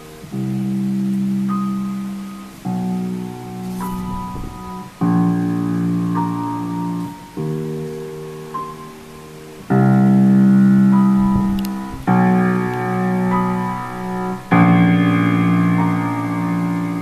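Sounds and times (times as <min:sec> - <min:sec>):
piano chords over speakers: 0:00.0 - 0:17.0.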